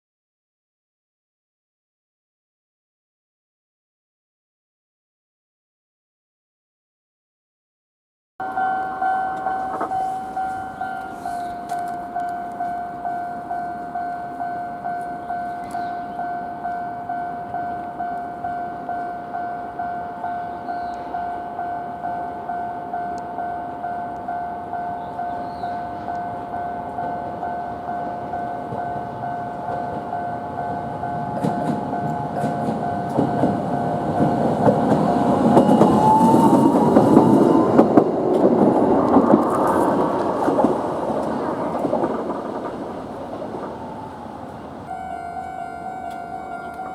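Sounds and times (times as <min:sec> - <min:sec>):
level-crossing warning bell: 0:08.4 - 0:46.9
tram passing: 0:08.4 - 0:46.9.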